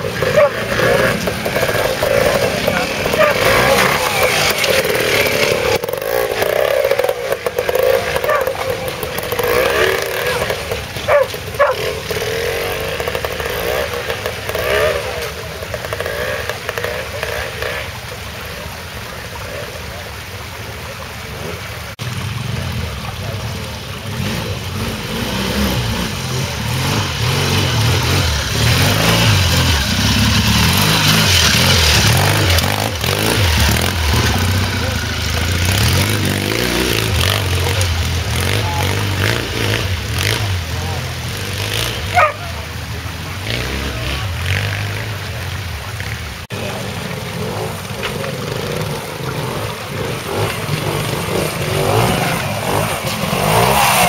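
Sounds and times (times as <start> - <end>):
deeper motorcycle engine close by: 0.0 - 54.0
motorcycle engines revving: 0.0 - 54.0.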